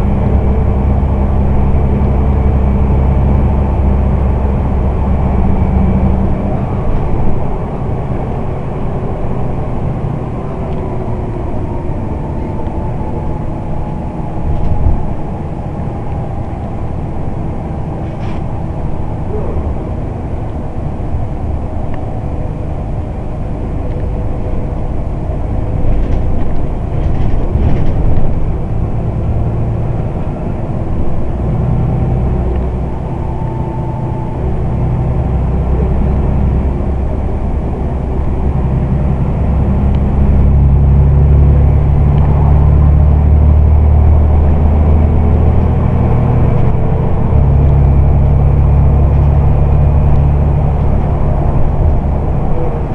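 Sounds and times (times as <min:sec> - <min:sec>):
bus engine droning: 0:00.0 - 0:52.9.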